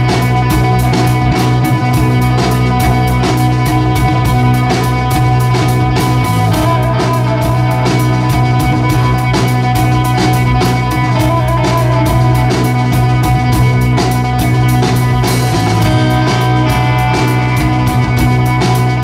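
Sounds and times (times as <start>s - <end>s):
bass guitar: 0.0s - 19.0s
electric guitar: 0.0s - 19.0s
pounding drum kit: 0.0s - 19.0s.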